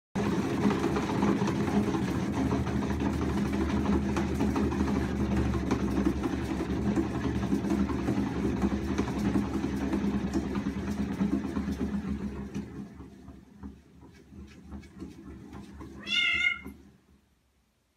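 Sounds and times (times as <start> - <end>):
exercise wheel rolling rumble: 0.2 - 17.2.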